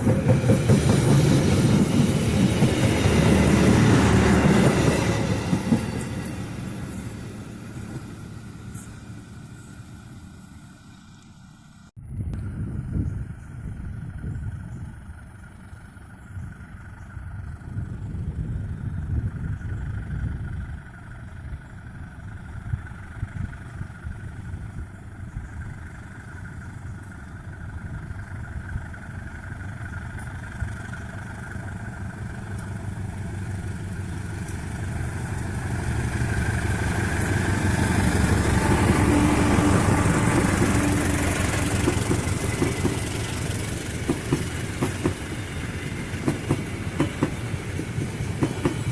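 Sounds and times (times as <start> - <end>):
diesel locomotive approaching: 0.0 - 48.9
vehicle engine rumble: 0.0 - 48.9.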